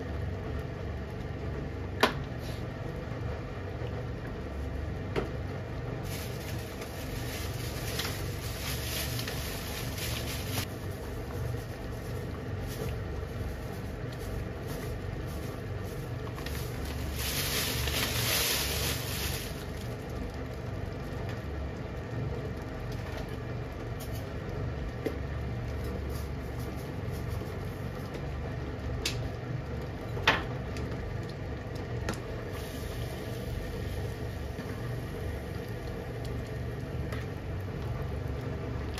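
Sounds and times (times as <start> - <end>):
curry bubbling in a pan: 0.0 - 18.2, 19.0 - 38.9
constant low hum: 0.0 - 38.9.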